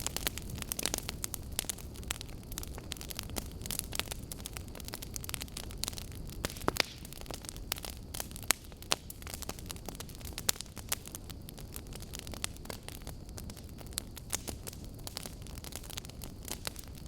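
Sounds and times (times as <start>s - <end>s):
burning logs crackling: 0.0s - 17.0s
low rumble of flames: 0.0s - 17.0s.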